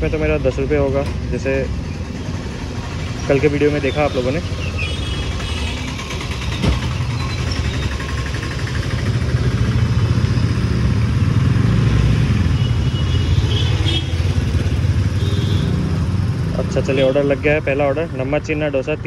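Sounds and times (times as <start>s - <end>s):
traffic engines running: 0.0s - 19.0s.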